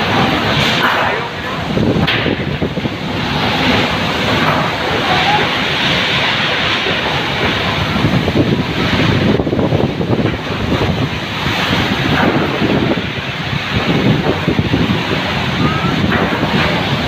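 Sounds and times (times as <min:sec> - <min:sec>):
wind gusts buffeting microphone: 0:00.0 - 0:17.0.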